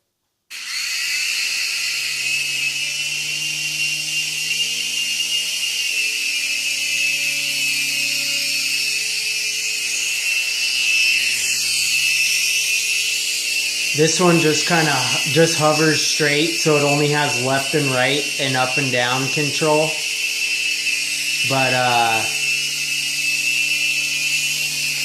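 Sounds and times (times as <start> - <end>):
toy helicopter motor whine: 0.5 - 25.0.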